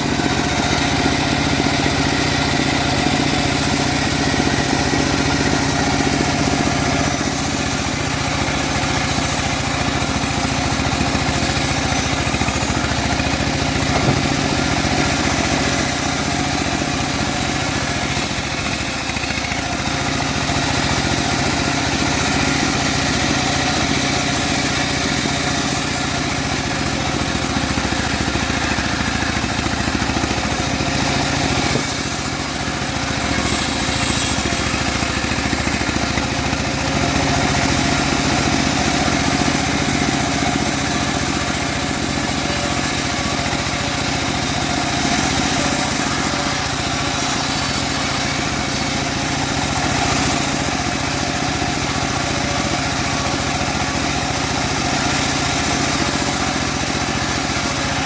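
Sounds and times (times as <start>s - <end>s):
bandsaw blade rasping through wood: 0.0s - 58.0s
engine running steadily: 0.0s - 58.0s.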